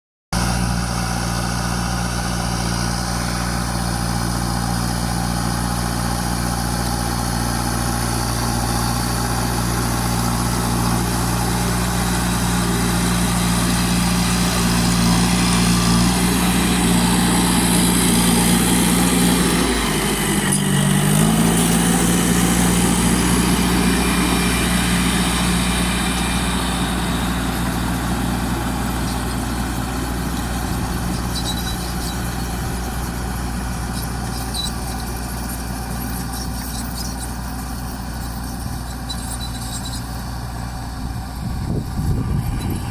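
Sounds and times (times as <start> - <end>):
bulldozer diesel engine running: 0.4 - 42.9.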